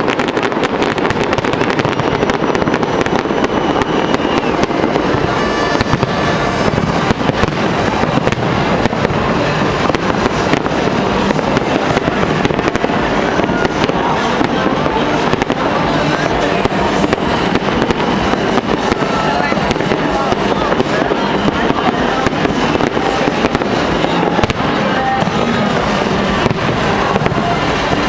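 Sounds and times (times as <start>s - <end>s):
continuous rumbling din: 0.0s - 28.0s
fireworks bangs and crackles: 0.0s - 28.0s.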